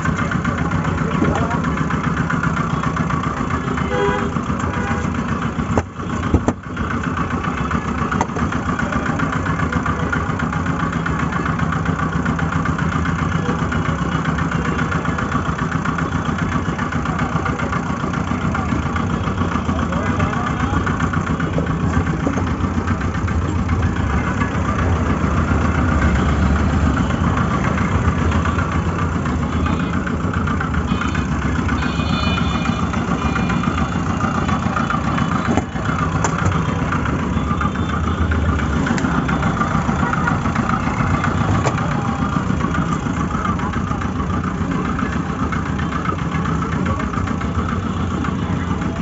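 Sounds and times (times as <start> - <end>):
engine running steadily: 0.0 - 49.0
faint voices: 0.0 - 49.0.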